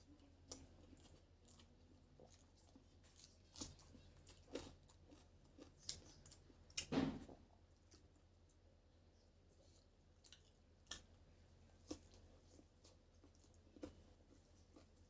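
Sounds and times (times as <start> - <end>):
person chewing with wet smacks: 0.0 - 8.8, 9.5 - 15.0.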